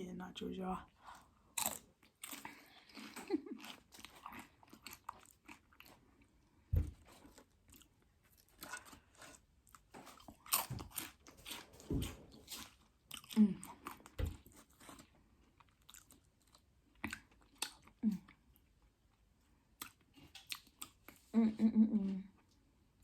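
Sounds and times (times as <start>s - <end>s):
crunching and chewing chips: 1.0s - 21.3s.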